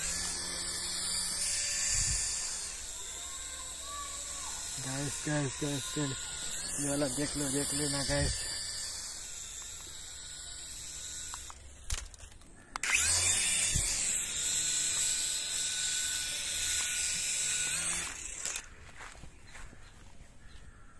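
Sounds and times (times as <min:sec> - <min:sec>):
toy helicopter whirring: 0:00.0 - 0:19.1.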